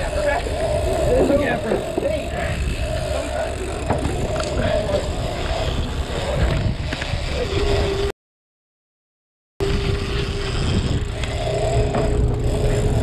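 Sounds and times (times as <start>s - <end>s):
boat engine running: 0.0s - 8.1s, 9.6s - 13.0s
steady whine: 0.0s - 8.1s, 9.6s - 13.0s.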